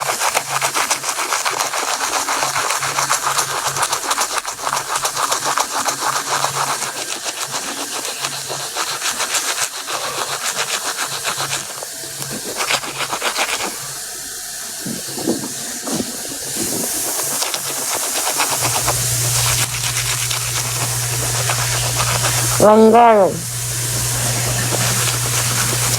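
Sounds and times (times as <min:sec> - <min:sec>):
toothbrush scrubbing teeth: 0:00.0 - 0:25.9.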